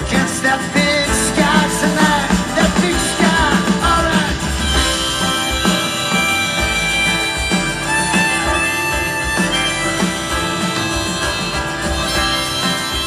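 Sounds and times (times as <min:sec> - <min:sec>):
high lead melody: 0:00.0 - 0:13.0
live band playing: 0:00.0 - 0:13.0.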